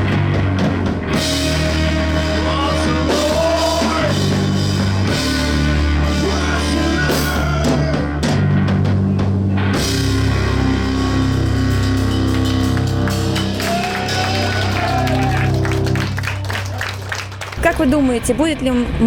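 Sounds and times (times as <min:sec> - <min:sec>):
heavy rock music: 0:00.0 - 0:19.0.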